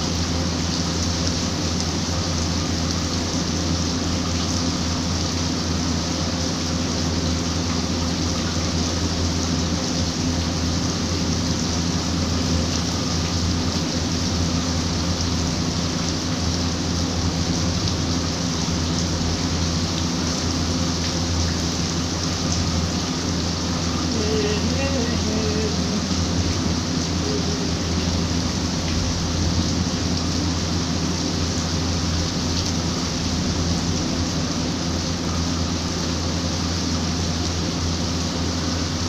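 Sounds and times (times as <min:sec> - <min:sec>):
rain splashing on tiles: 0:00.0 - 0:39.0.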